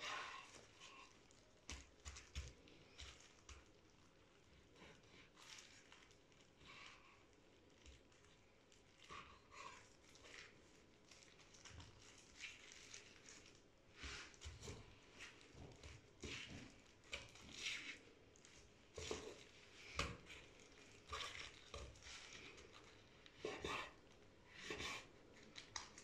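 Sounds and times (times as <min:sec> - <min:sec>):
soft rustles of meat slices: 0:00.0 - 0:26.0.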